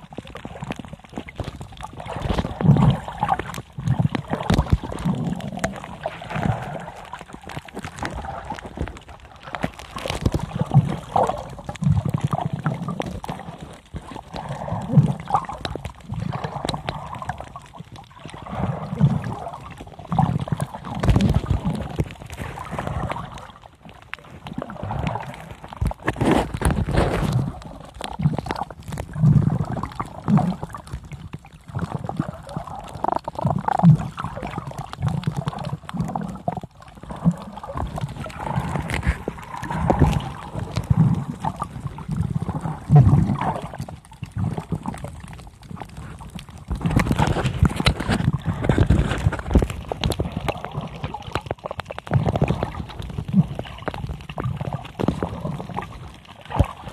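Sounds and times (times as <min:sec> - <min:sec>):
underwater gurgling: 0:00.0 - 0:56.9.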